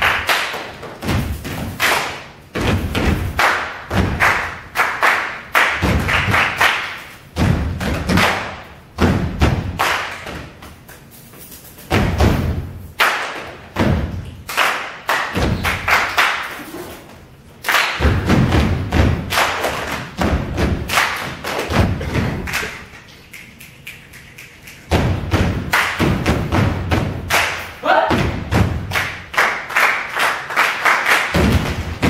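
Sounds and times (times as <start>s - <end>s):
stomps and hand claps: 0.0s - 11.0s, 11.9s - 16.6s, 17.6s - 32.0s.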